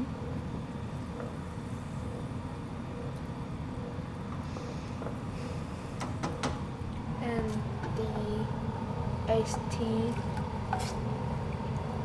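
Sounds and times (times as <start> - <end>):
gas stove rumbling: 0.0 - 12.0.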